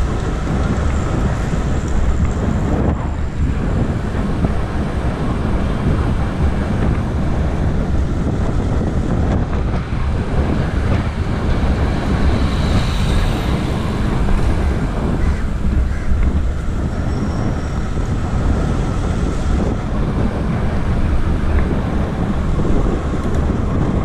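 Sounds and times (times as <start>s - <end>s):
road traffic noise: 0.0s - 24.0s
wind rushing over microphone: 0.0s - 24.0s.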